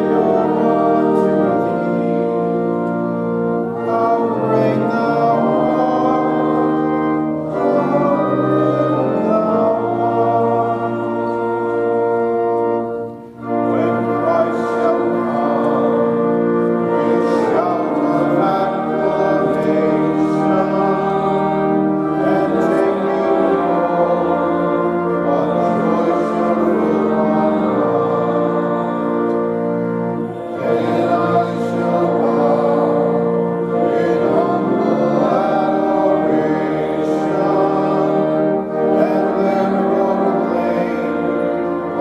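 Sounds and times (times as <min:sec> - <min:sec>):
organ playing sustained chords: 0:00.0 - 0:42.0.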